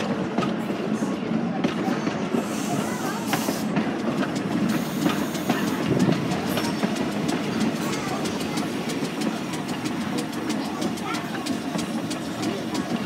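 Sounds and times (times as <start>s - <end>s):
rail vehicle rumbling on track: 0.0s - 13.0s.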